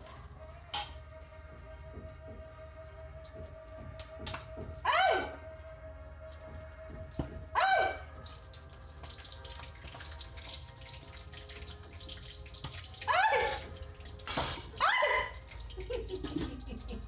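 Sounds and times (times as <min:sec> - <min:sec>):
meat frying in hot oil: 0:00.0 - 0:17.0.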